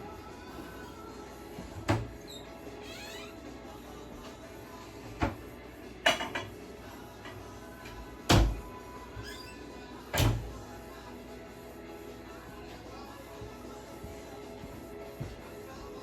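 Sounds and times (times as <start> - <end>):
quiet background music: 0.0 - 16.0.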